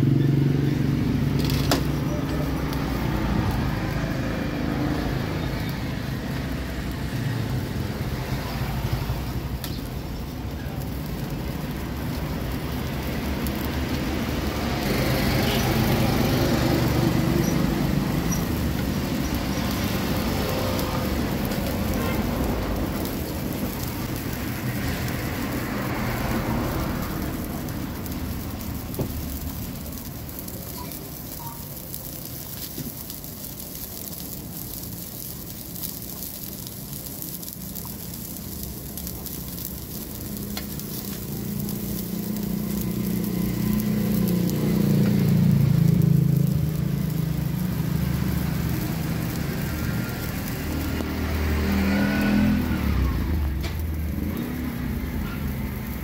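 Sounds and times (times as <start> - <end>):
steady traffic noise: 0.0 - 56.0.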